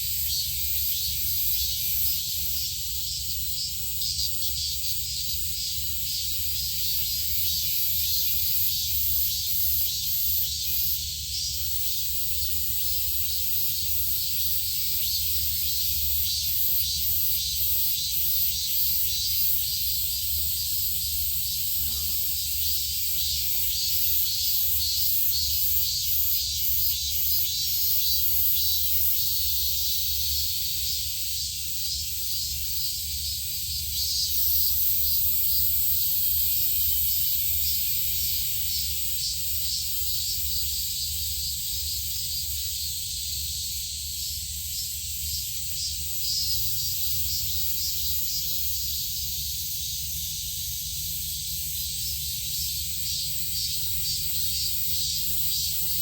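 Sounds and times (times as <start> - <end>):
insects hissing: 0.0 - 56.0.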